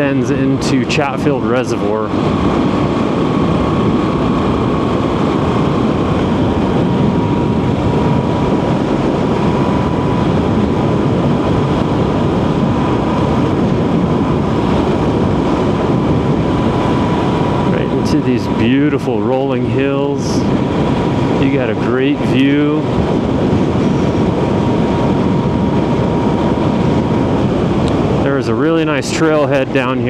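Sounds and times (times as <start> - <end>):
thin whine: 0.0 - 30.0
wind noise: 0.0 - 30.0.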